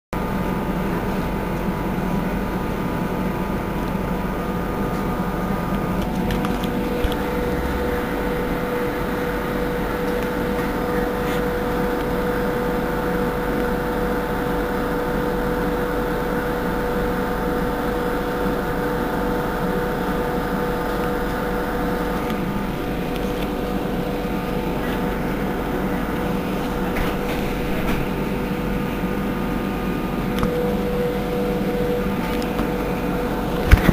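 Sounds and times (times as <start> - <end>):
trolleybus equipment humming: 0.2 - 33.9.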